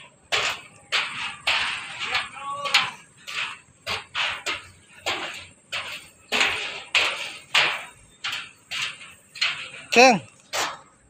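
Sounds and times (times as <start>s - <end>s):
footsteps on steel mesh: 0.0s - 11.0s.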